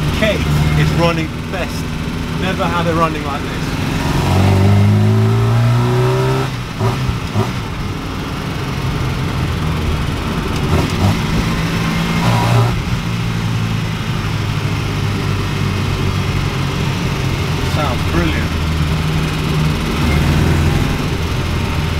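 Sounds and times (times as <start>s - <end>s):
car engine accelerating: 0.0s - 21.9s.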